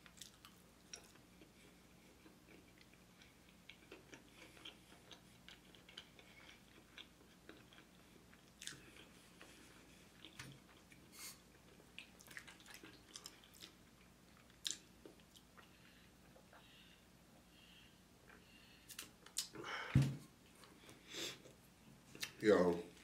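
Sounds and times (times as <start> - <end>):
faint chewing with wet mouth clicks: 0.0 - 16.8, 20.6 - 23.0.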